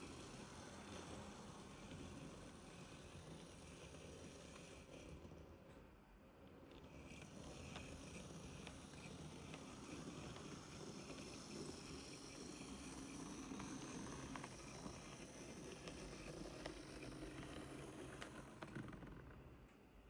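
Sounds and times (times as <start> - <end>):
model train motor hum: 0.0 - 5.4, 6.7 - 19.2.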